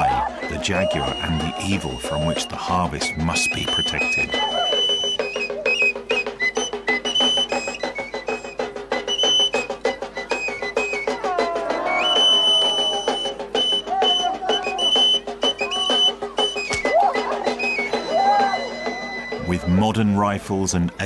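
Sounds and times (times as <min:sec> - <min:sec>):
fast drumbeats: 0:00.0 - 0:20.2.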